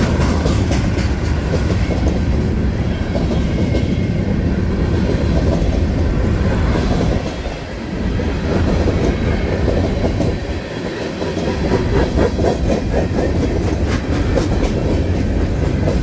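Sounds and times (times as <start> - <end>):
steel wheels rumbling on rail: 0.0 - 16.0
wheels clacking over rail joints: 0.0 - 16.0.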